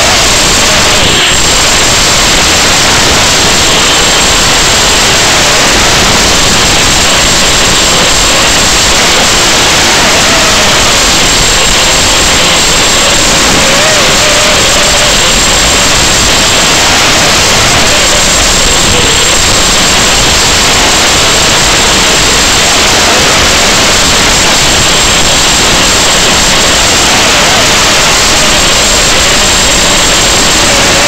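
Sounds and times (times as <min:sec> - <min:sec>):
loud static hiss: 0:00.0 - 0:31.0.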